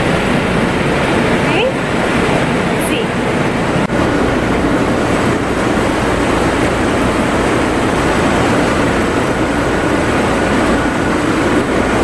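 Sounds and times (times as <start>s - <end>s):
loud low rumbling noise: 0.0s - 12.0s.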